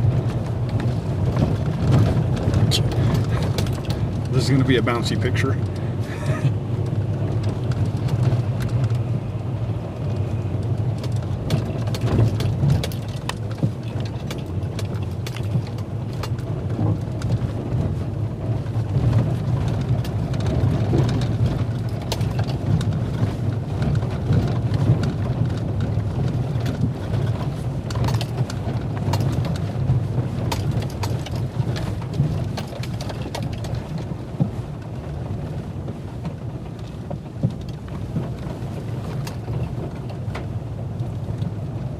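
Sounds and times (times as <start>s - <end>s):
truck engine and tyres rumbling: 0.0s - 41.9s
truck knocks and rattles: 0.0s - 41.9s.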